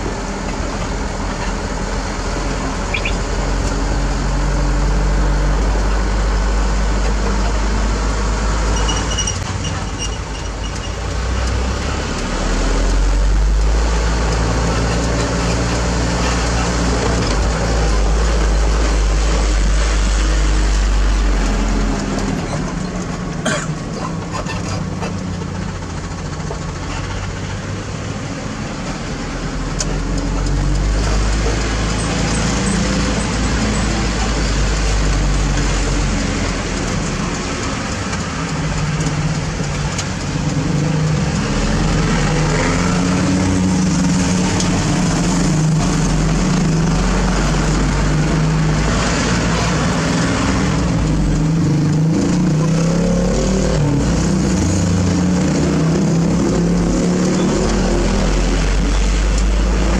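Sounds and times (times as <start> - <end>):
road and wind noise: 0.0 - 59.9
truck diesel engine running: 0.0 - 59.9.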